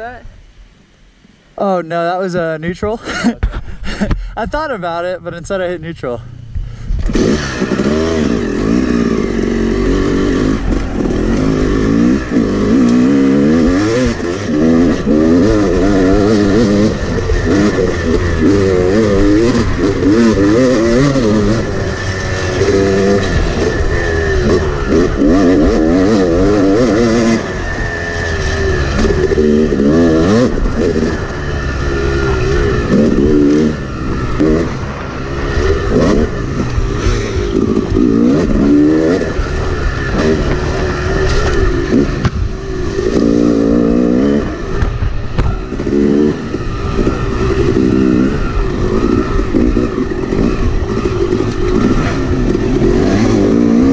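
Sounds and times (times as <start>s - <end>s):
dirt bike engine revving: 5.2s - 53.9s.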